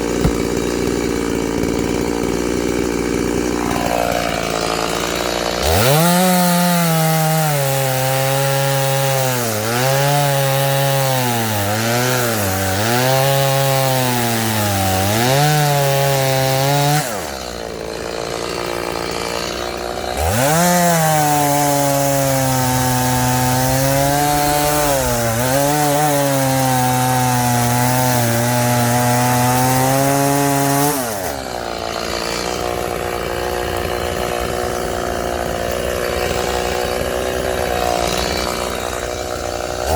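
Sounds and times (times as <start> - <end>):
chainsaw cutting logs: 0.0 - 39.9
chainsaw idling: 0.0 - 39.9.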